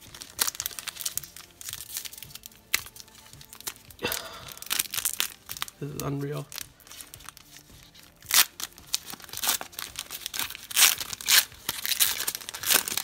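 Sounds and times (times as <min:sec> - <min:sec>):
foil wrapper tearing and crinkling: 0:00.0 - 0:13.0.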